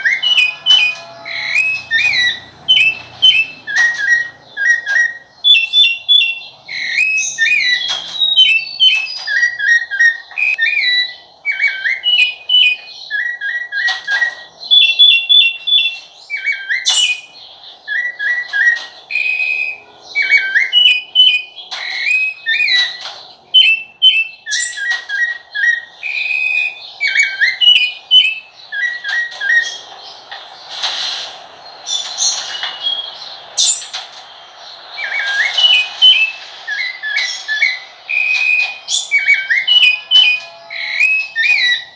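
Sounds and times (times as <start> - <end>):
thrush singing whistled phrases: 0.0 - 41.9.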